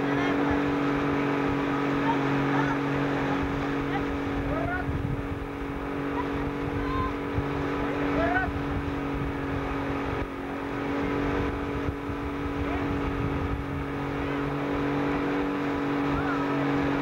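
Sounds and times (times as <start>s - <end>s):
motorboat engine droning: 0.0s - 17.0s
rushing water: 0.0s - 17.0s
wind: 0.0s - 17.0s.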